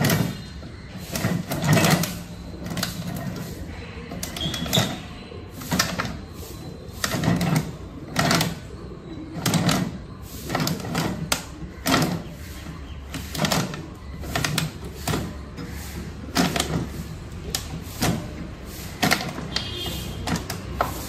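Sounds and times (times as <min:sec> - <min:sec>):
bottle compactor clanks and crunches: 0:00.0 - 0:21.0.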